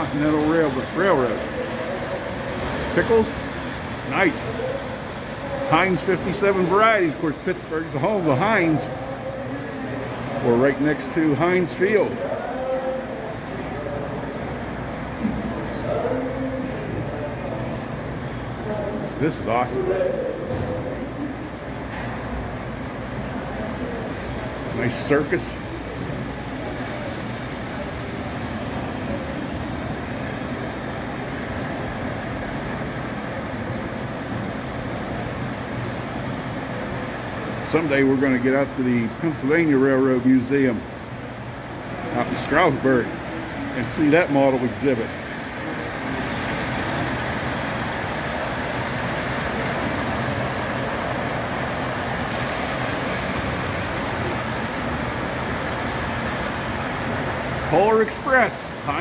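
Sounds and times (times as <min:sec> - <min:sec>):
model trains rumbling: 0:00.0 - 0:59.0.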